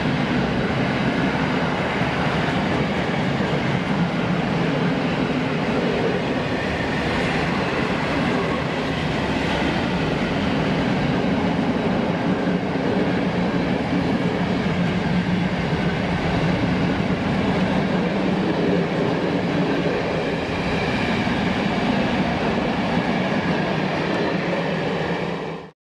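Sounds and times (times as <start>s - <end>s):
train wheels on rails: 0.0s - 25.7s.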